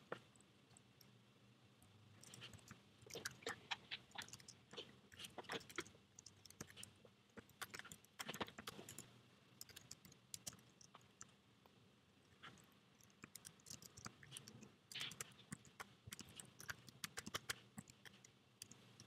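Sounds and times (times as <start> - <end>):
computer keyboard typing: 2.2 - 11.3, 12.4 - 19.0.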